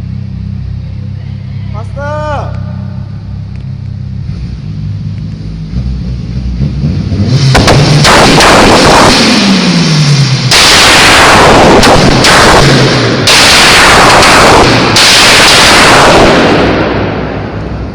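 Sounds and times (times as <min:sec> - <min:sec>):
car engine hum: 0:00.0 - 0:17.9
exhaust bangs and crackles: 0:00.0 - 0:17.9.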